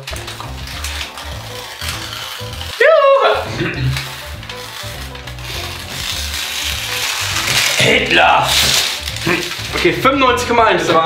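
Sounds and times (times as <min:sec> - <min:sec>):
background music: 0:00.0 - 0:11.0
paper tearing and crinkling: 0:00.0 - 0:11.0.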